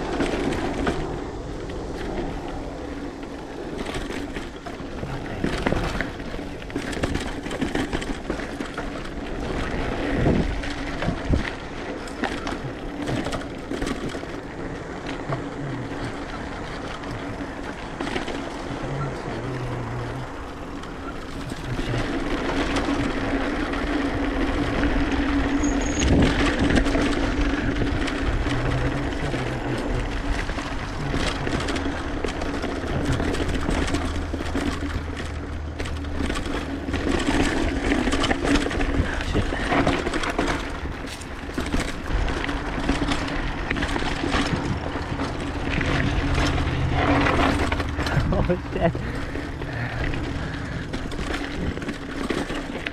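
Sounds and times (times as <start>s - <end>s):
bike knocking and rattling: 0.0s - 52.9s
bike tyres rolling on dirt: 0.0s - 52.9s.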